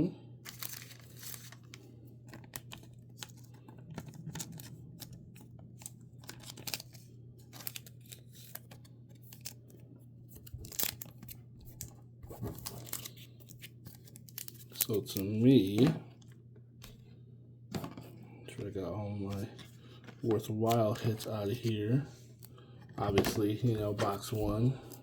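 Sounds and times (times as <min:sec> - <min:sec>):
low steady hum: 0:00.0 - 0:25.0
cards and packaging rustling: 0:00.4 - 0:17.0, 0:17.8 - 0:25.0.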